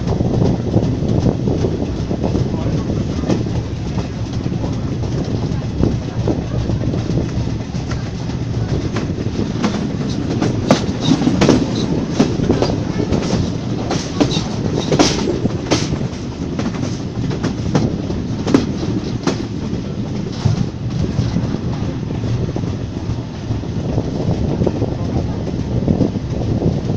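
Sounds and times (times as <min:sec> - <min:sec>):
wheel clacks over rail joints: 0:00.0 - 0:24.6
carriage wheels rumbling: 0:00.0 - 0:26.9.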